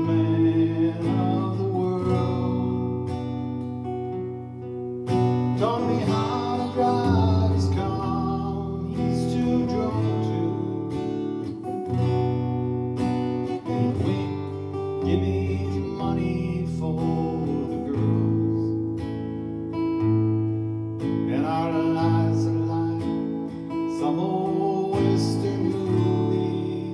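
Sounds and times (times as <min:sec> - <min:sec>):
acoustic guitar strumming: 0:00.0 - 0:26.9.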